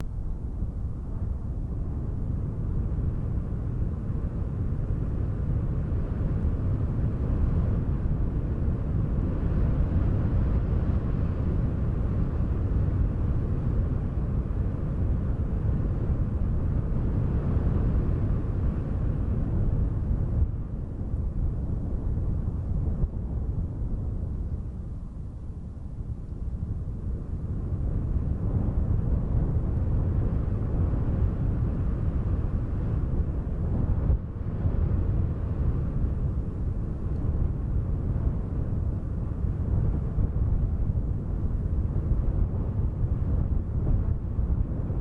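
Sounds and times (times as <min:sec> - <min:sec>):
low rumbling wind: 0:00.0 - 0:45.0.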